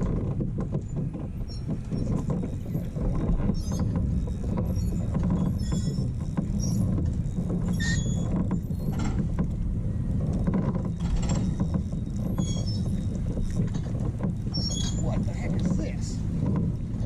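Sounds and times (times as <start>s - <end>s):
choppy water around hull: 0.0s - 17.0s
wind: 0.0s - 17.0s.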